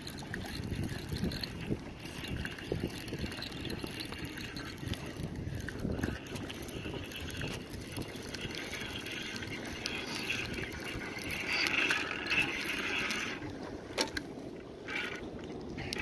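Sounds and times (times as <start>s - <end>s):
sea water washing against rocks: 0.0s - 13.9s.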